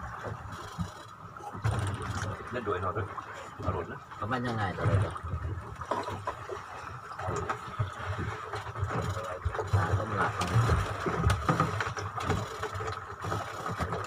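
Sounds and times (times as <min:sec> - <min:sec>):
boat and water rumble: 0:00.0 - 0:14.0.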